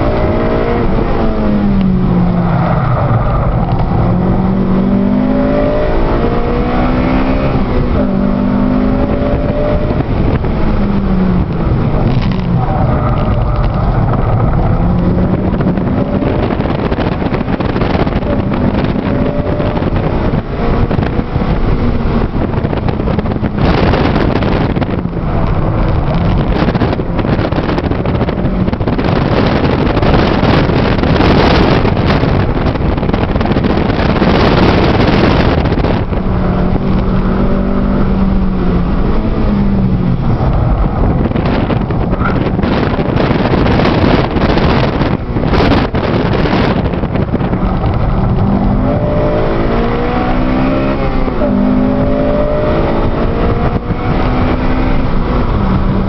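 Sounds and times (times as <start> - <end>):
car engine pulling: 0.0 - 56.0
wind and road noise: 0.0 - 56.0.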